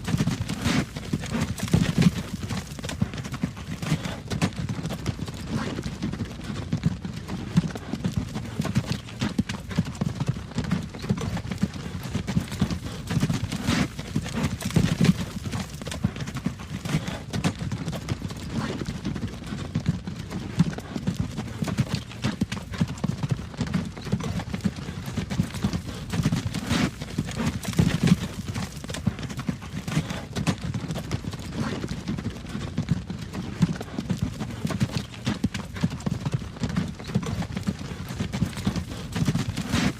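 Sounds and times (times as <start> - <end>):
horse hooves on hard road: 0.0 - 39.9.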